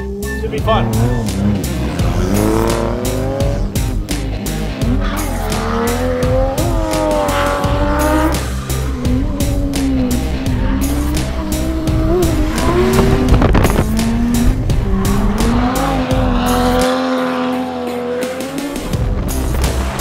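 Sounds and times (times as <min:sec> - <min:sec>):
car engine revving: 0:00.0 - 0:20.0
music with steady beat: 0:00.0 - 0:20.0.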